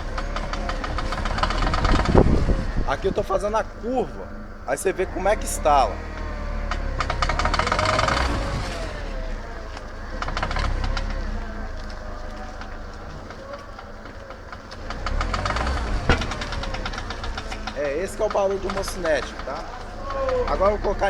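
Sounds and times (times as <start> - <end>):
car engine running: 0.0 - 21.0
cv joint clicking in rapid runs: 0.0 - 21.0.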